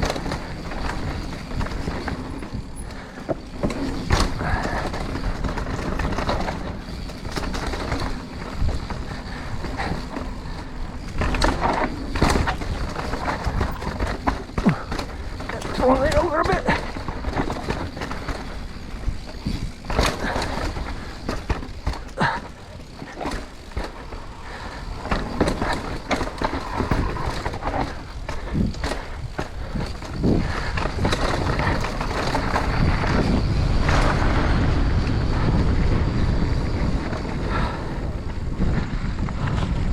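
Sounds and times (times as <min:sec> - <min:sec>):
bike knocks and rattles: 0:00.0 - 0:39.9
bike tyres rumbling on dirt: 0:00.0 - 0:39.9.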